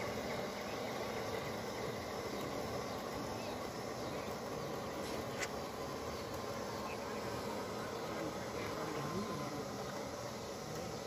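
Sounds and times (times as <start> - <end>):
faint insect drone: 0.0 - 11.0
model train wheels rumbling on rail: 0.0 - 11.0.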